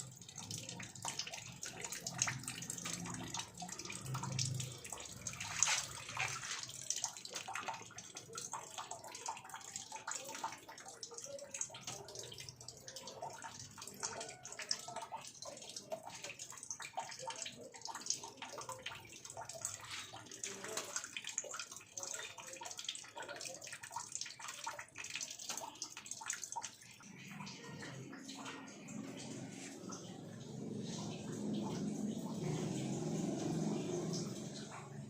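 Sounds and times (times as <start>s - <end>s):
cat drinking water splashes: 0.0s - 35.0s
tap water running: 0.0s - 35.0s.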